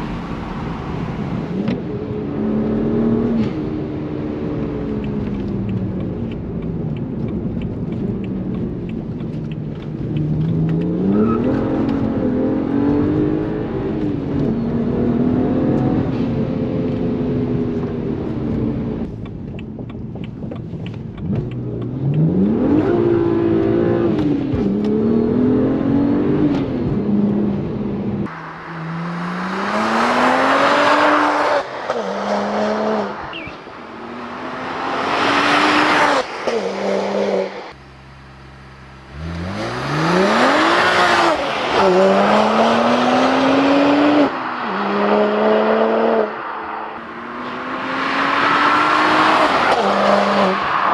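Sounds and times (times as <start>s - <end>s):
car engine accelerating hard: 0.0s - 19.2s, 20.4s - 50.9s.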